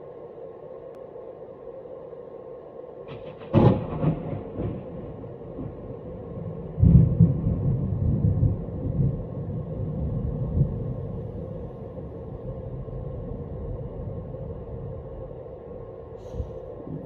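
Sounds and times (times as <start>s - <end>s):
thunder rumbling: 3.1s - 17.0s.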